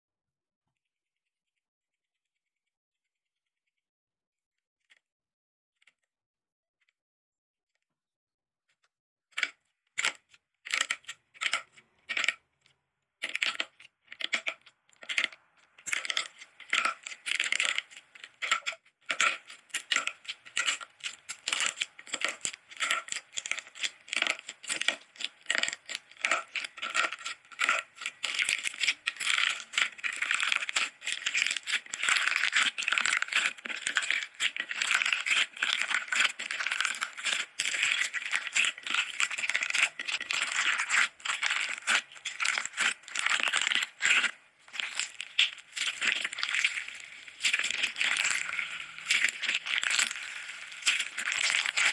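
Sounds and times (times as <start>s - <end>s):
crunchy slime crackling: 9.4s - 12.4s, 13.2s - 51.9s.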